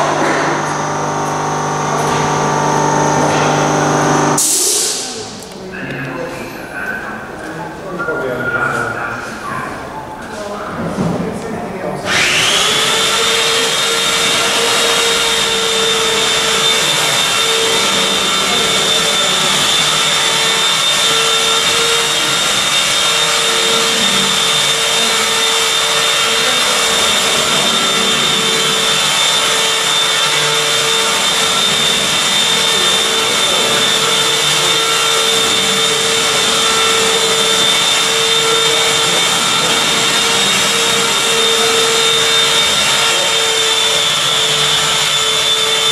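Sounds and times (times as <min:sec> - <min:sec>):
electric motor whining: 0:00.0 - 0:05.1, 0:12.1 - 0:45.9.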